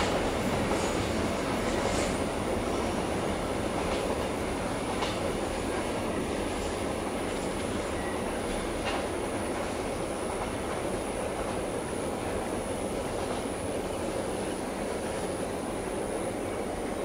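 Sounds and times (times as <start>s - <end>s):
freight wagons rumbling on rail: 0.0s - 17.0s.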